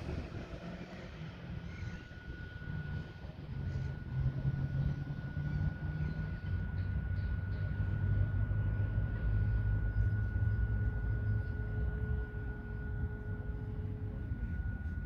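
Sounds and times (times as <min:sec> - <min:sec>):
low outdoor rumble: 0:00.0 - 0:15.0
model boat motor whining: 0:00.0 - 0:15.0.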